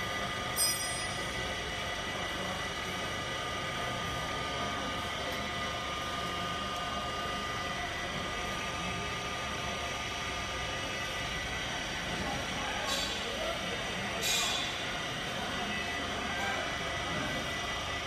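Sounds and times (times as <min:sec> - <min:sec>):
machine mechanical hum: 0:00.0 - 0:18.0.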